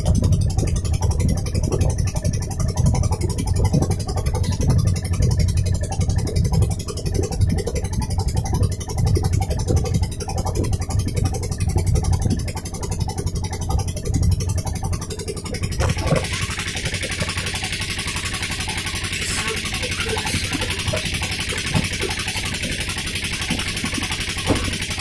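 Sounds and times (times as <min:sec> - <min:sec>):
boat engine running: 0:00.0 - 0:25.0
water washing against hull: 0:00.0 - 0:25.0.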